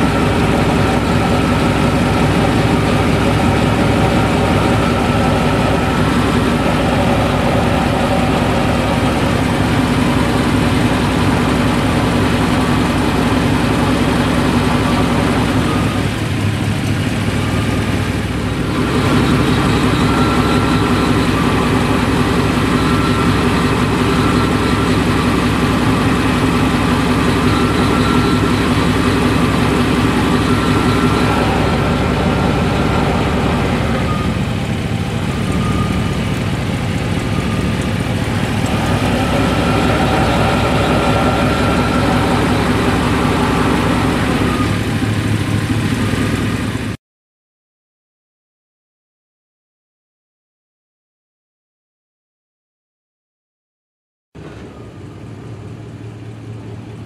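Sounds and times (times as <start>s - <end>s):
truck engine running: 0.0s - 47.0s, 54.4s - 57.0s.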